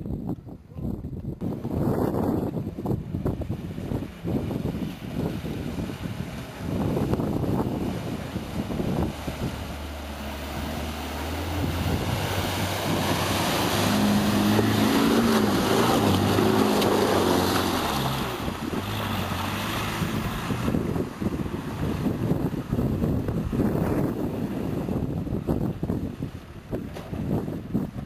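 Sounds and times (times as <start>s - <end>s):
water churning and splashing: 1.5s - 28.0s
car engine under load: 2.4s - 28.0s.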